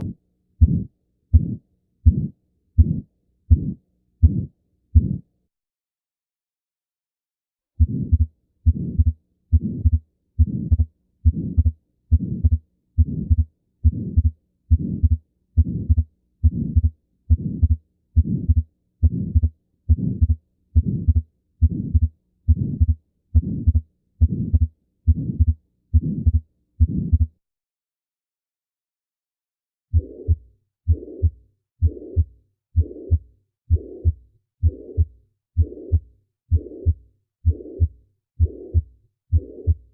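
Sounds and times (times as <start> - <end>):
heartbeat thuds: 0.0 - 5.2, 7.8 - 27.3, 30.0 - 39.9.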